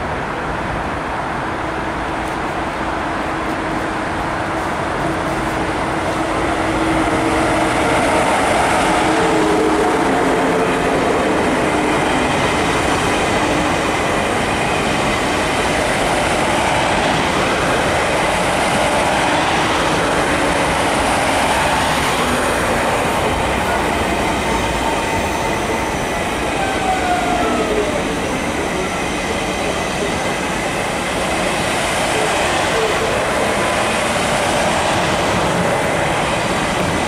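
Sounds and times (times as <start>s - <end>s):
train wheels rushing on rail: 0.0s - 37.0s.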